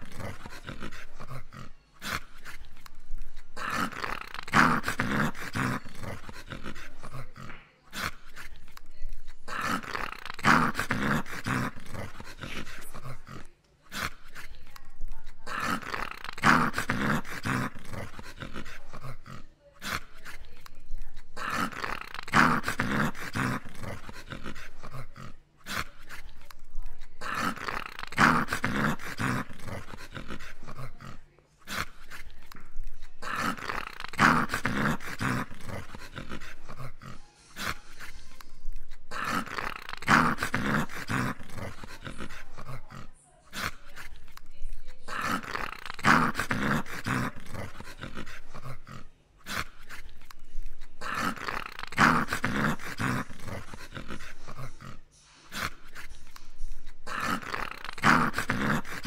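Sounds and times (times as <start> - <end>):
dog snoring: 0.0 - 8.5, 9.4 - 14.5, 15.4 - 20.4, 21.4 - 26.3, 27.2 - 44.1, 45.1 - 50.3, 51.0 - 59.0.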